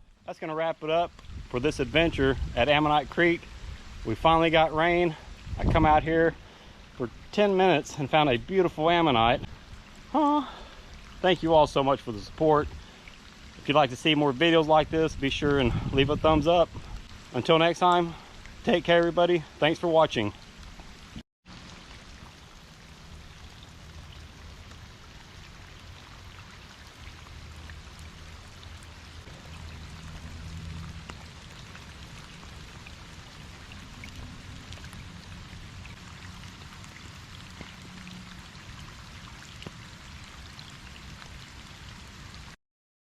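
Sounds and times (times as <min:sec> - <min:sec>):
light rain drops ticking: 0:00.0 - 0:42.6.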